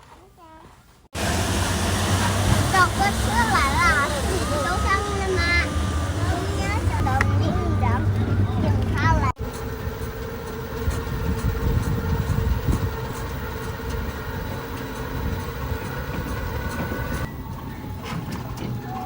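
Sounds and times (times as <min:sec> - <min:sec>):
vehicle engine rumbling: 0:01.2 - 0:19.0.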